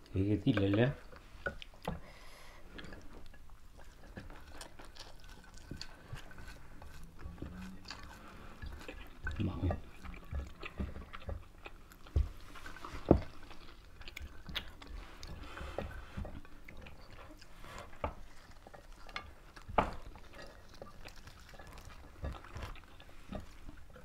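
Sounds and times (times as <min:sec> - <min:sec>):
people chewing: 0:00.0 - 0:24.0.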